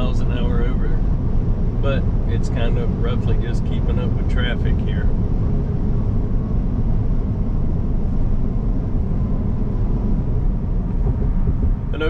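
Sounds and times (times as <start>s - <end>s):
road and tyre noise in car cabin: 0.0s - 12.0s.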